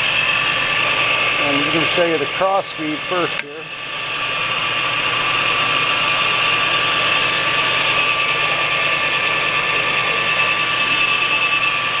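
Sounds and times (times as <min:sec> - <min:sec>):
lathe gearing whine: 0:00.0 - 0:12.0
lathe mechanical rattle: 0:00.0 - 0:12.0.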